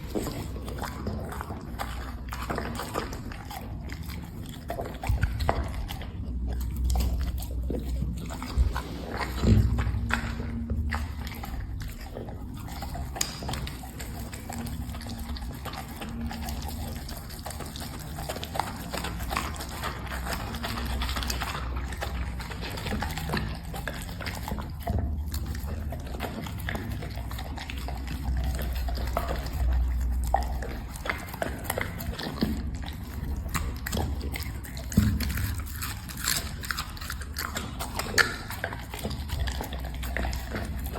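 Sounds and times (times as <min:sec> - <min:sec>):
dog chewing: 0:00.0 - 0:40.9.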